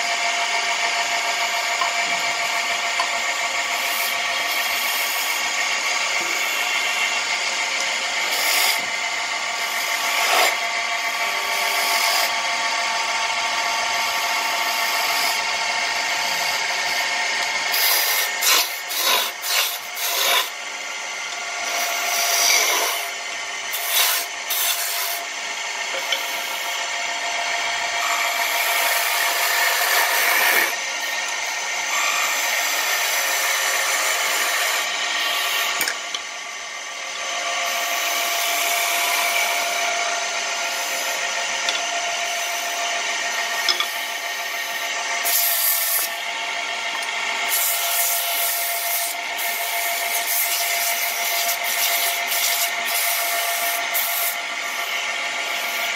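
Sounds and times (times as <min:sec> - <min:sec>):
power tool cutting wood: 0:00.0 - 0:55.9.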